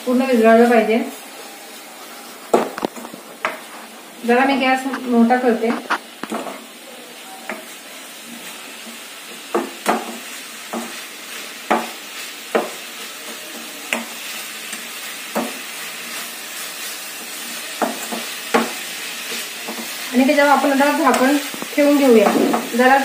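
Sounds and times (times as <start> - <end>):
radish sizzling in a pan: 0.0 - 23.0.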